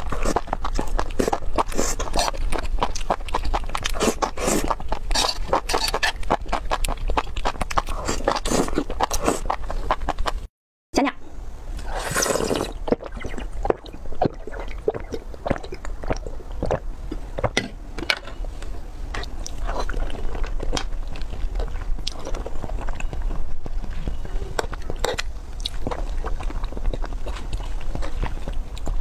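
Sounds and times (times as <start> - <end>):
person chewing food: 0.0 - 10.5, 11.8 - 17.8, 18.4 - 29.0.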